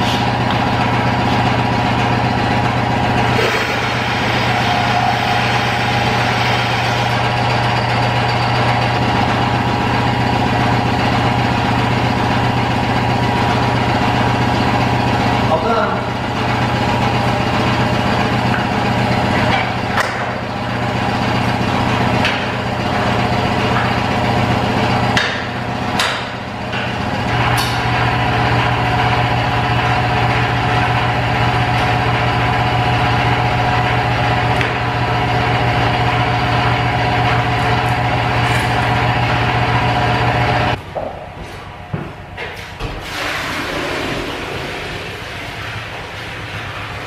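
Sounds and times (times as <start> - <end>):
vacuum pump humming: 0.0 - 41.1.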